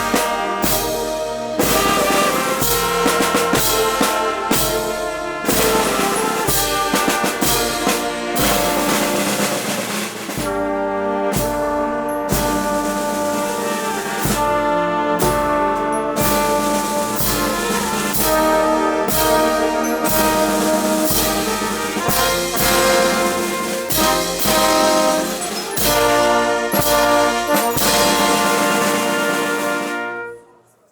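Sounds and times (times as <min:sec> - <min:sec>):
drum beats: 0:00.0 - 0:30.3
wind band playing march: 0:00.0 - 0:30.7.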